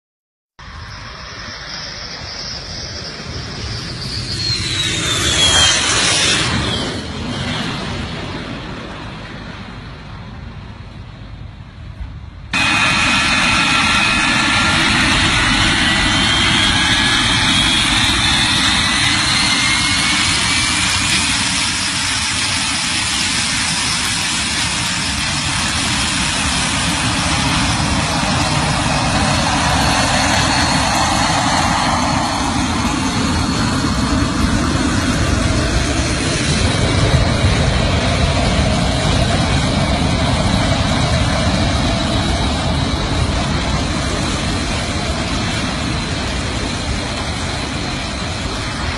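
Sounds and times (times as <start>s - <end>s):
rising engine whine: 0.6s - 11.7s, 12.5s - 48.9s
jet engine running: 0.6s - 48.9s.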